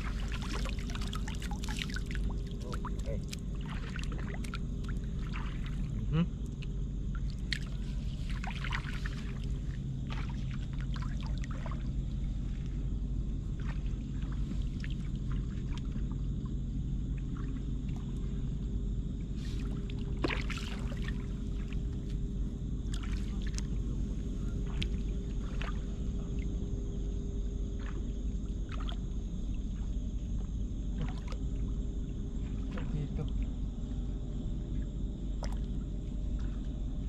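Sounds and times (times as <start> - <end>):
water sloshing and splashing: 0.0 - 26.8, 27.6 - 37.0
steady low hum: 0.0 - 37.0.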